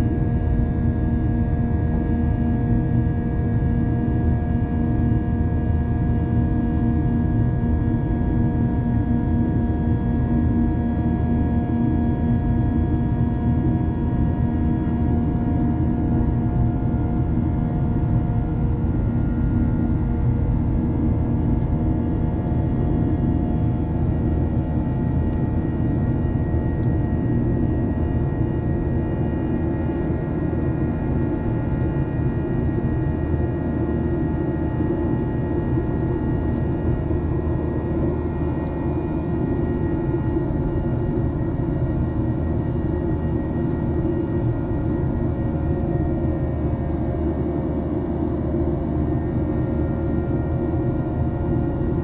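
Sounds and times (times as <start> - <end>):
jet engine rumble: 0.1 - 52.0.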